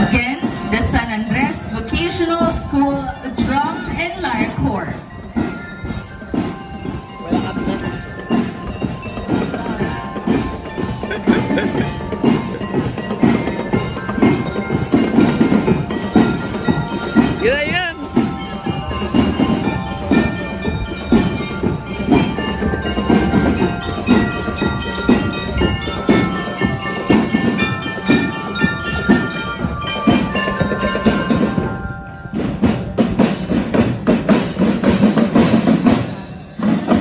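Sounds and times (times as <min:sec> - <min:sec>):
bell lyre melody: 0:00.0 - 0:37.0
marching drum beat: 0:00.0 - 0:37.0.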